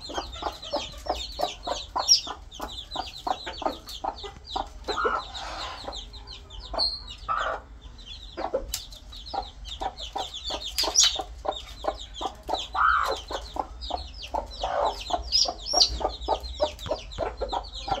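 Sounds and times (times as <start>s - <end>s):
chickens clucking: 0.0s - 18.0s
chicks peeping: 0.0s - 18.0s.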